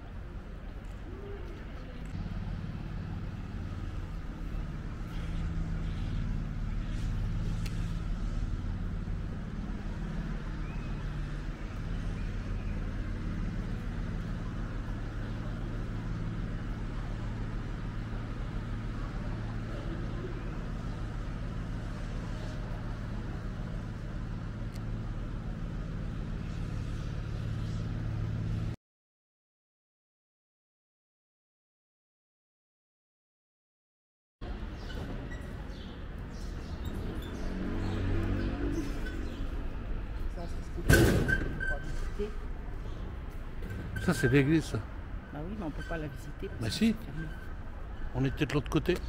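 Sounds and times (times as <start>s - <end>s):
car engine and road noise drone: 0.0s - 28.8s, 34.4s - 49.0s.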